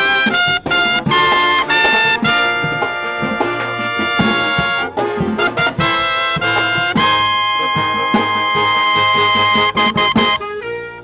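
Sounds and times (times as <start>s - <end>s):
marching band playing: 0.0s - 11.0s
trumpets playing close: 0.0s - 11.0s.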